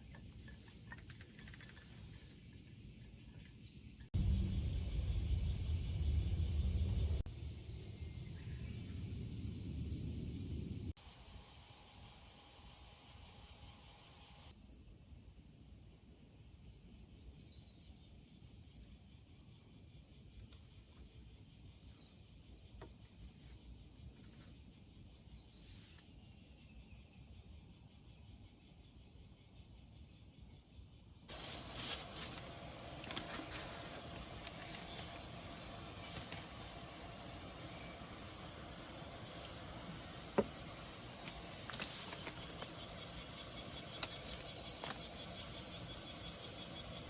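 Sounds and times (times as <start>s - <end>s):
insects trilling: 0.0s - 30.6s, 31.3s - 47.0s.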